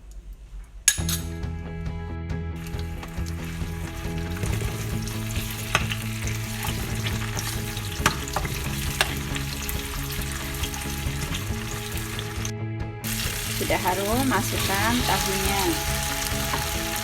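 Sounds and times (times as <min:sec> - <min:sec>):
paste sizzling in hot oil: 0:02.6 - 0:17.0.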